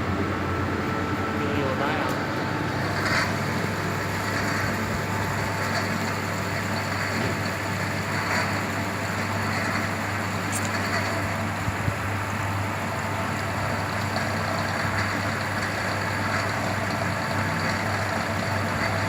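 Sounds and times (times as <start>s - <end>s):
machine running with low hum: 0.0s - 19.0s.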